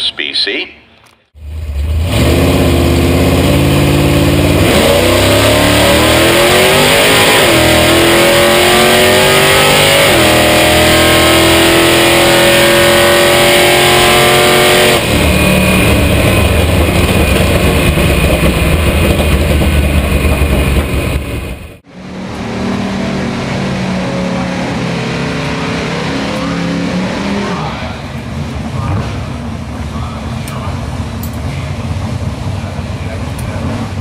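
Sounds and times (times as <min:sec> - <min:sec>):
drag car engine revving: 0:01.4 - 0:34.0.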